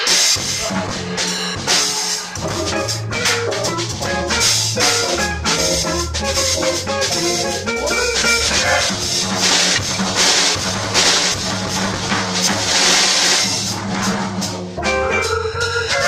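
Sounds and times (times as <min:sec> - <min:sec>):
drum kit with cymbals: 0:00.0 - 0:16.0
organ playing jazz: 0:00.6 - 0:16.0.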